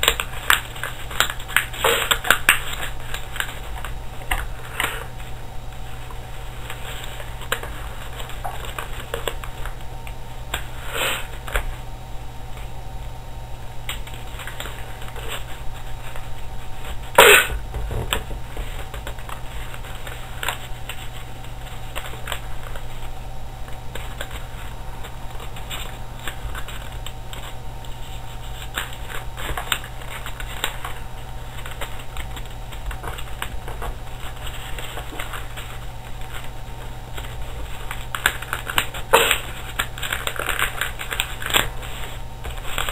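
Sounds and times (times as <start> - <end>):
paper rustling and crinkling: 0.0 - 11.8, 13.9 - 42.9
steady low hum: 0.0 - 42.9.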